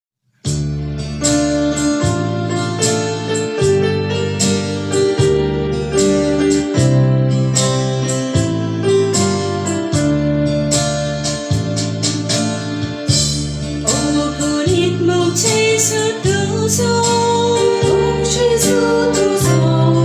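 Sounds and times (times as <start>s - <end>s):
electronic keyboard organ chords: 0.4s - 20.0s.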